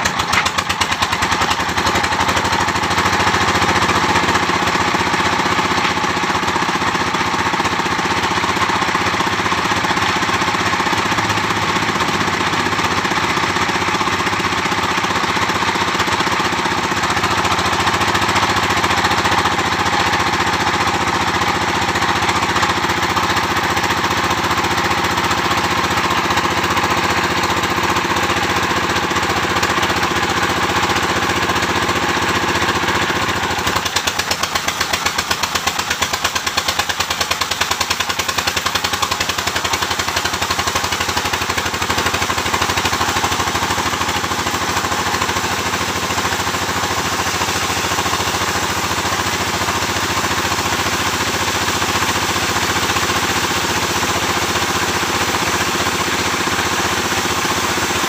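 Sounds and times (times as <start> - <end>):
sawmill machinery droning: 0.0 - 58.0.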